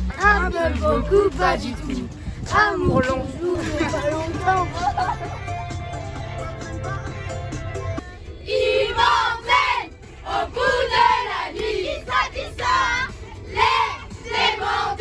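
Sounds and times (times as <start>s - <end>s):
children singing and shouting: 0.0s - 15.0s.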